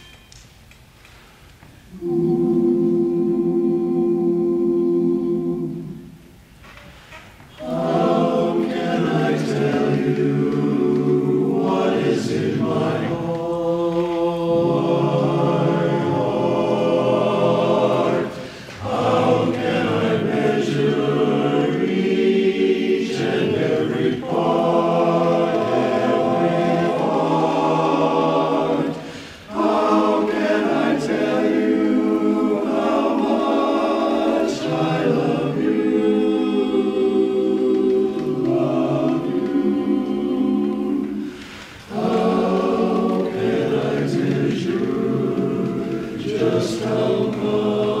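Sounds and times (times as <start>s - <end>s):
men's chorus singing a cappella: 1.9s - 6.1s, 7.5s - 48.0s.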